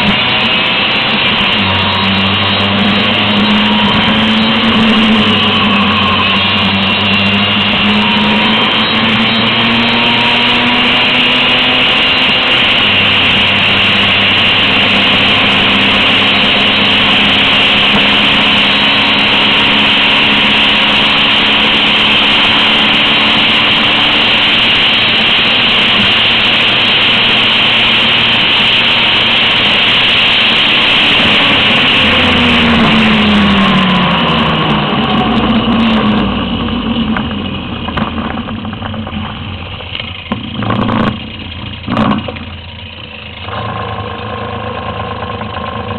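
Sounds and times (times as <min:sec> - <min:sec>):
scooter engine running: 0:00.0 - 0:45.9.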